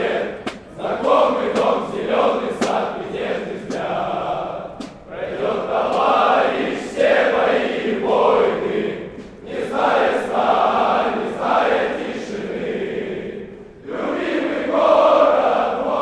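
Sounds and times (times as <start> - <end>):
soldiers singing in unison: 0.0 - 16.0.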